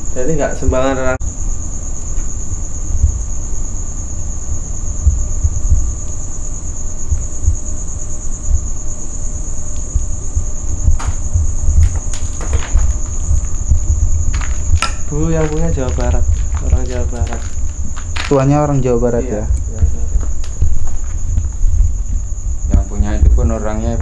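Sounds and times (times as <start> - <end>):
night insects trilling: 0.0 - 24.0
low rumble: 2.8 - 24.0.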